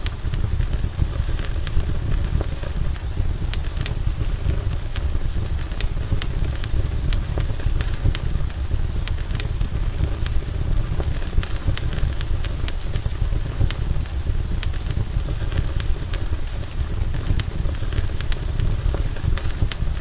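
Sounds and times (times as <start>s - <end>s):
burning wood crackling and popping: 0.0s - 20.0s
campfire rumble: 0.0s - 20.0s.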